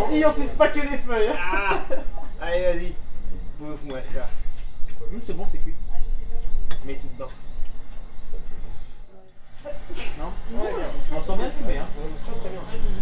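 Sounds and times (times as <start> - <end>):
crickets chirping: 0.0 - 13.0
people's voices: 0.0 - 13.0.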